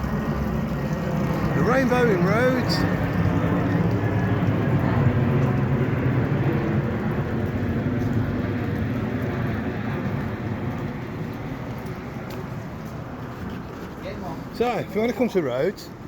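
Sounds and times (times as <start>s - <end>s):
vehicle engine humming: 0.0s - 15.2s
road noise: 0.0s - 16.0s.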